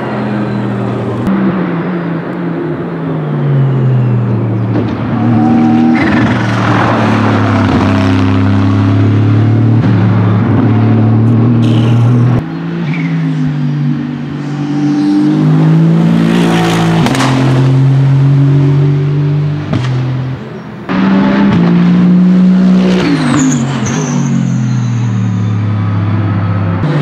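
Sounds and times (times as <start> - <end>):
race car engines at high revs: 0.0 - 27.0.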